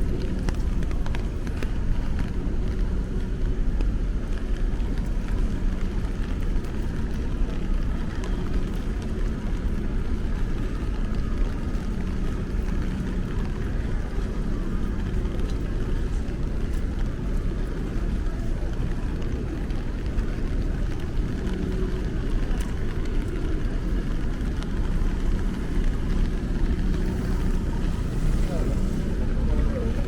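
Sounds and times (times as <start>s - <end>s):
faint engine hum: 0.0s - 30.0s
traffic rumble: 0.0s - 30.0s.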